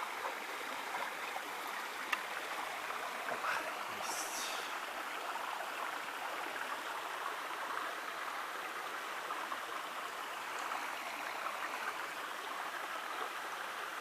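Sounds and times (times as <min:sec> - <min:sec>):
creek water flowing: 0:00.0 - 0:14.0.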